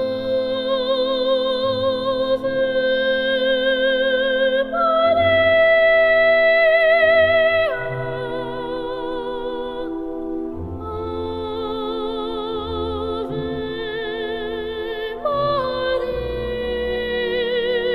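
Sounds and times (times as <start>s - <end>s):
slow melody with vibrato: 0.0s - 17.9s.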